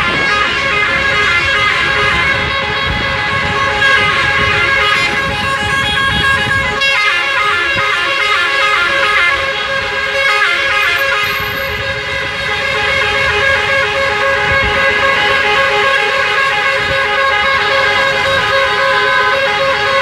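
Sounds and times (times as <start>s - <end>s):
car horns honking: 0.0s - 20.0s
slow traffic noise: 0.0s - 20.0s.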